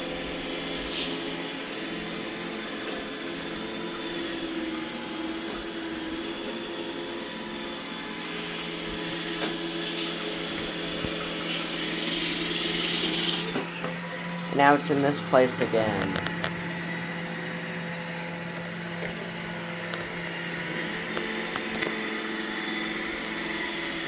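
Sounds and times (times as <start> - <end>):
robot vacuum running: 0.0 - 24.0.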